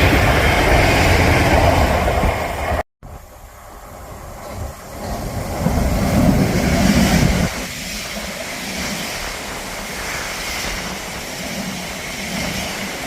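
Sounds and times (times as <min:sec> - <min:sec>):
steady rushing noise: 0:00.0 - 0:13.0
train rumbling past: 0:00.0 - 0:13.0.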